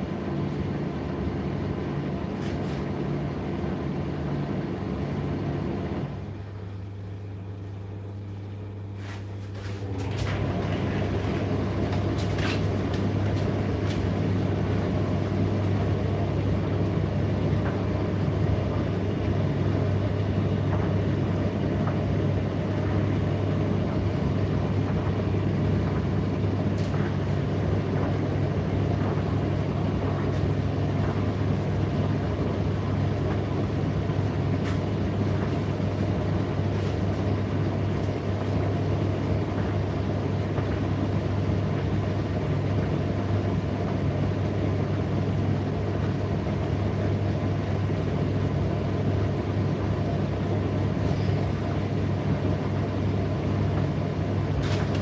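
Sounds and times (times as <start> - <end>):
tumble dryer humming: 0.0 - 55.0.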